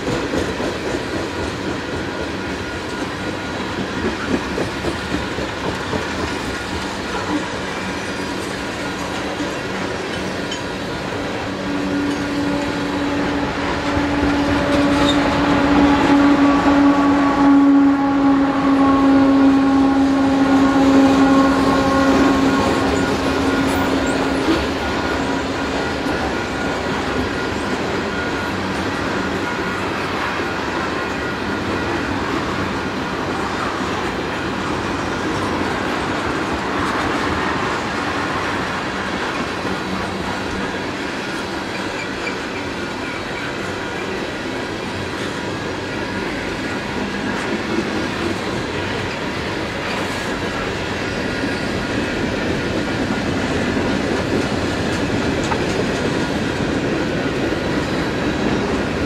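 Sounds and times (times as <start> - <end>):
diesel locomotive humming: 0.0 - 59.0
wheel-on-rail noise: 0.0 - 59.0.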